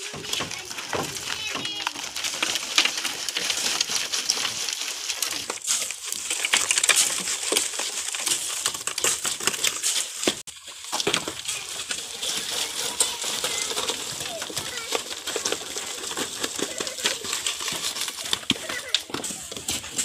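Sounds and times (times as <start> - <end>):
wet concrete scraping and sliding: 0.0 - 20.0.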